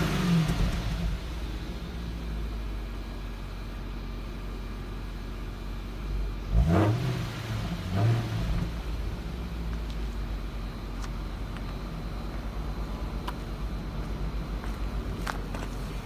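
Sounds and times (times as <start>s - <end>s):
car exhaust idling: 0.0s - 16.0s
engine throttle blips: 0.0s - 16.0s.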